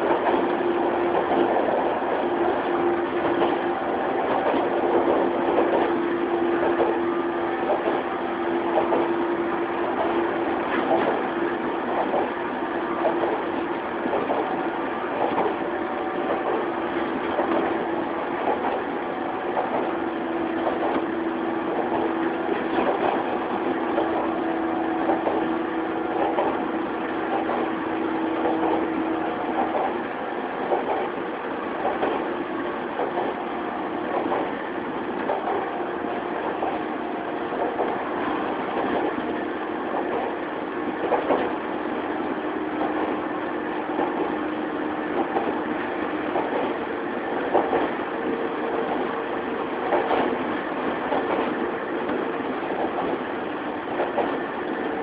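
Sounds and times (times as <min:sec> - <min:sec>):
wheels clacking over rail joints: 0:00.0 - 0:53.3, 0:53.9 - 0:54.4
train wheels rumbling: 0:00.0 - 0:55.0.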